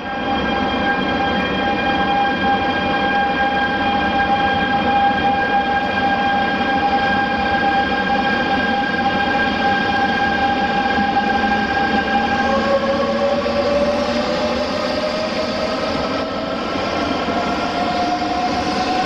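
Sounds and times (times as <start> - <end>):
train whine: 0.0 - 19.0.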